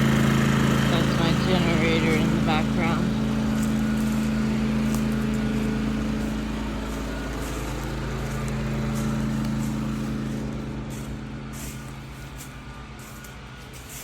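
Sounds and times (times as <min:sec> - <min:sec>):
generator engine humming: 0:00.0 - 0:14.0.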